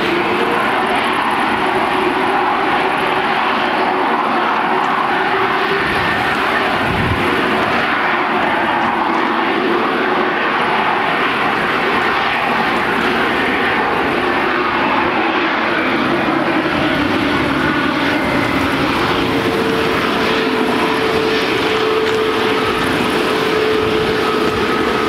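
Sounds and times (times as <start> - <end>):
jet engines at taxi power: 0.0 - 25.0.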